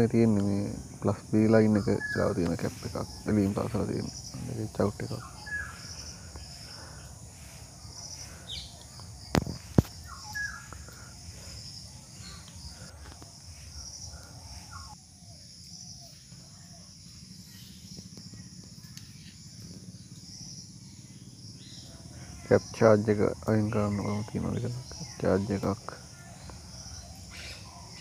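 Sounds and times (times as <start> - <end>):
high-pitched pulsing chirr: 0.0 - 22.7.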